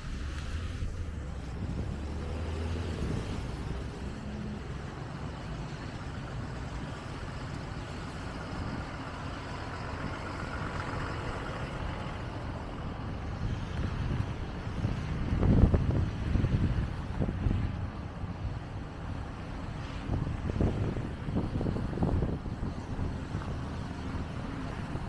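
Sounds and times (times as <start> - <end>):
car passing on wet road: 0.0 - 25.0
traffic hiss: 0.0 - 25.0.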